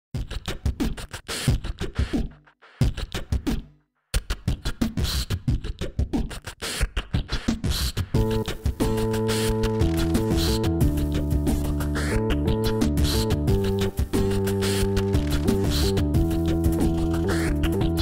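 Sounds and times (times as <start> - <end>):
music with hard percussive beat: 0.2 - 18.0.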